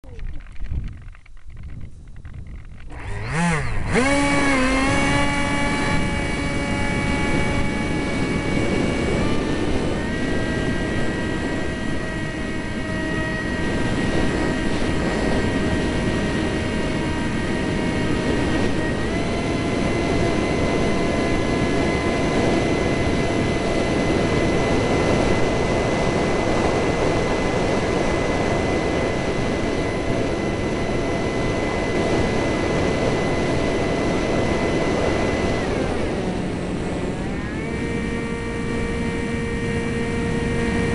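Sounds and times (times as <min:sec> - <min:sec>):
wind rumbling on microphone: 0:00.0 - 0:40.9
jet engines whining and roaring: 0:01.8 - 0:40.9.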